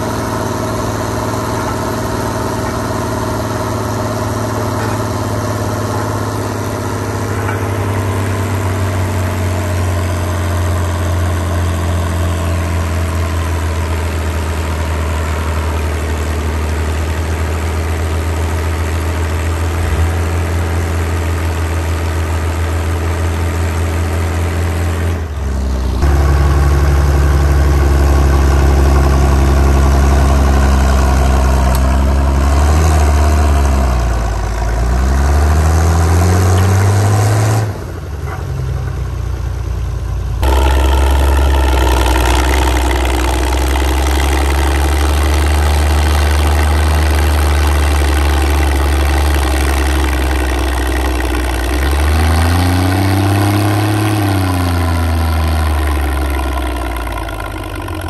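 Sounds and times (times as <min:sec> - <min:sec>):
diesel tractor engine under load: 0:00.0 - 0:58.0
low-pitched tractor engine: 0:00.0 - 0:58.0.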